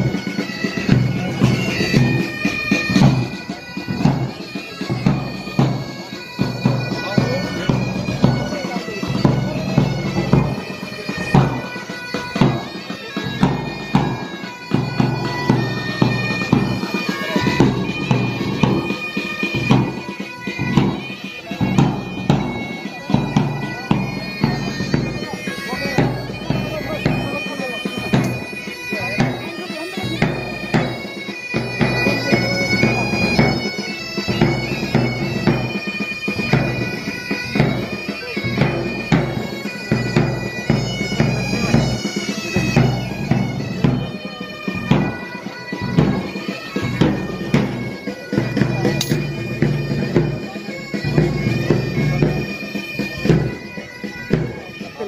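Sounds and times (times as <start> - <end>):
reedy wind instrument melody: 0.0 - 55.0.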